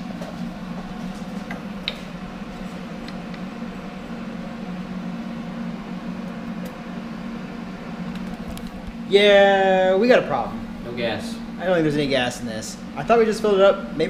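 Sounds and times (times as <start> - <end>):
fan humming: 0.0 - 14.0.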